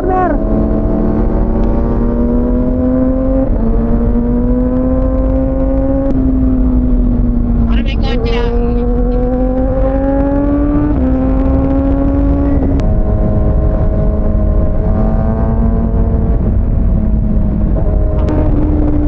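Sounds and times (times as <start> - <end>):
low wind rumble: 0.0 - 19.0
motorcycle engine revving: 0.0 - 19.0.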